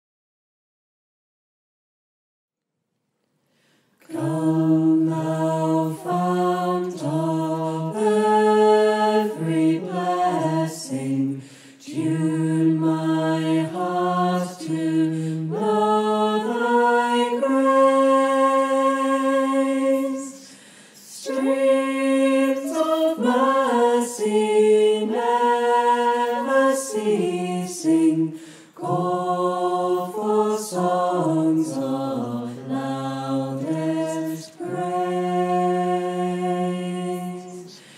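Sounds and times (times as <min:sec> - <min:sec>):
mixed choir singing a cappella: 0:04.0 - 0:37.9.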